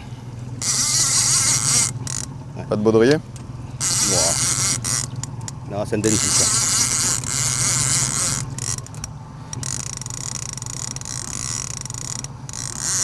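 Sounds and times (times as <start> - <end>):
fishing reel drag buzzing: 0.6 - 2.4, 3.8 - 13.0.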